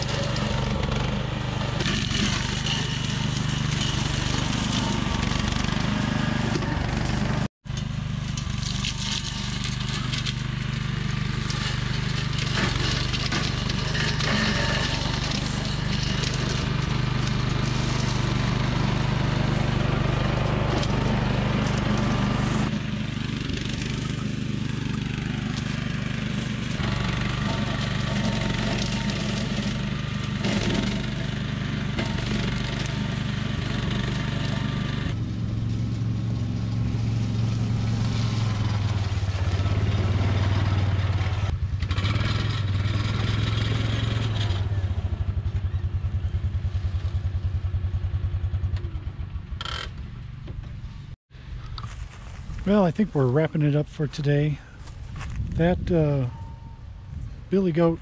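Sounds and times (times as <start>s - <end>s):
brush cutter engine running: 0.0s - 50.8s.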